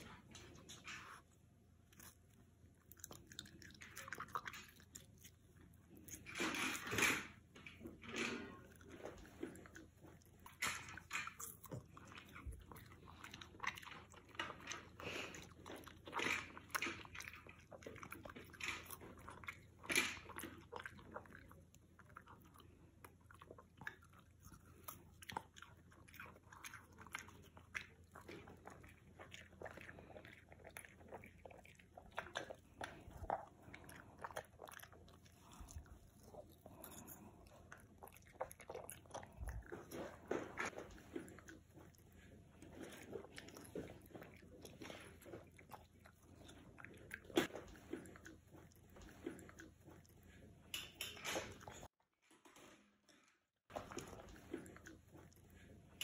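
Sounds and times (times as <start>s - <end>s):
dog crunching watermelon: 0.0s - 51.9s, 53.7s - 56.0s.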